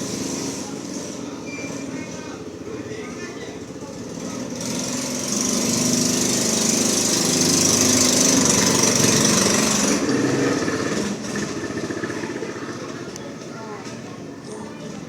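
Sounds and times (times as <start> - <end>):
small engine running loudly: 0.0 - 13.5.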